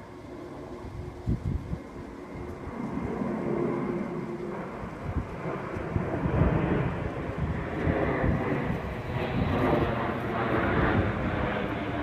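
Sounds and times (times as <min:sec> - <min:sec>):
aircraft engines approaching: 0:00.0 - 0:12.0
wind buffeting microphone: 0:00.8 - 0:12.0.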